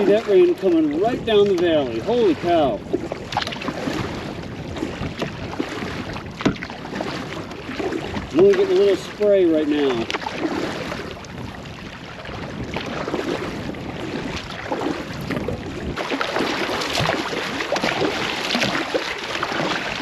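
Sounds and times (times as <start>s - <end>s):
paddle strokes splashing water: 0.0s - 20.0s.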